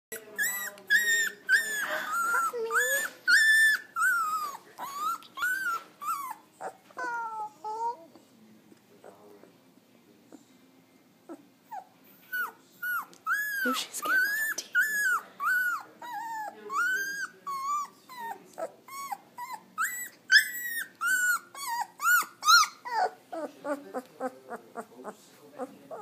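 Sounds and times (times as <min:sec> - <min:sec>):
puppy whining: 0:00.1 - 0:08.3, 0:11.2 - 0:26.0.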